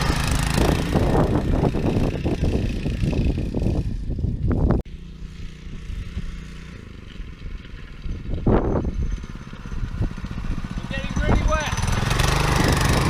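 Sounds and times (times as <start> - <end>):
small petrol engine running: 0.0 - 4.3, 4.9 - 13.0.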